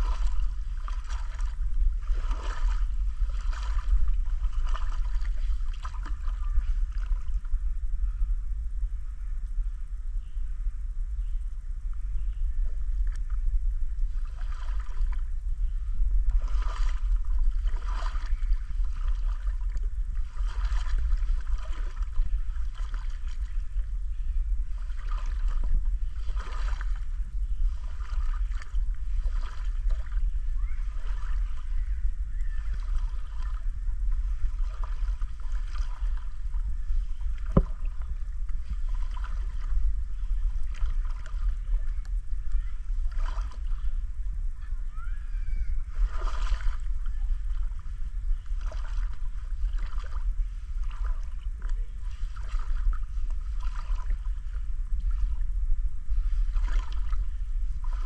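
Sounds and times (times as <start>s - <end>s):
river water lapping and gurgling: 0.0s - 8.4s, 12.0s - 58.0s
steady low rumble: 0.0s - 58.0s.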